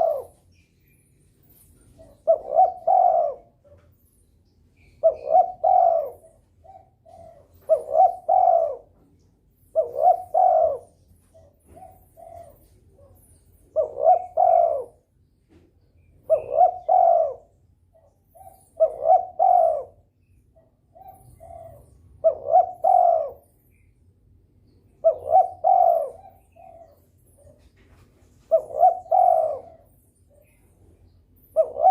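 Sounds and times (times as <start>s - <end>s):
dove cooing: 0.0s - 0.5s, 1.4s - 4.0s, 4.8s - 15.1s, 16.1s - 23.8s, 24.9s - 27.6s, 28.4s - 31.9s.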